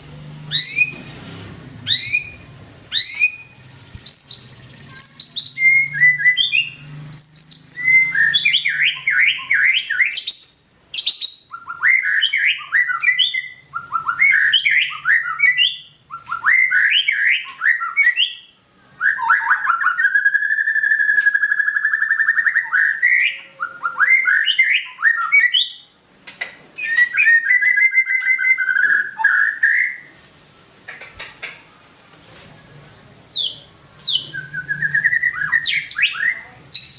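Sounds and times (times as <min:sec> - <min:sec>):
bird singing whistled phrases: 0:00.4 - 0:01.0, 0:01.8 - 0:30.2, 0:33.3 - 0:36.9.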